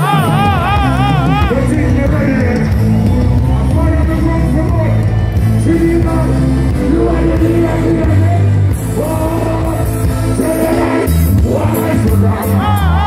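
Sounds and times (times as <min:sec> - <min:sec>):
man singing: 0:00.0 - 0:02.8, 0:03.6 - 0:13.0
bass line: 0:00.0 - 0:13.0
reggae band playing: 0:00.0 - 0:13.0.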